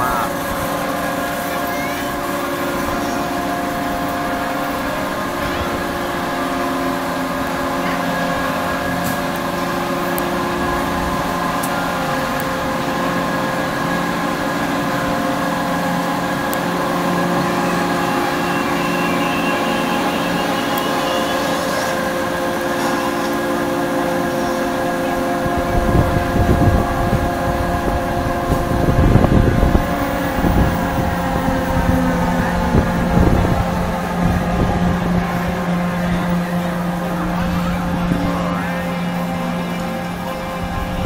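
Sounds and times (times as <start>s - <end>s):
ride machinery humming: 0.0s - 41.0s.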